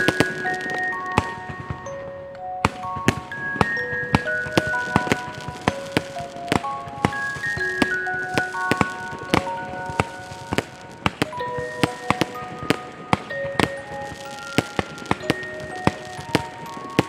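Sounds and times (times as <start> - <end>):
melody of held notes: 0.0 - 17.0.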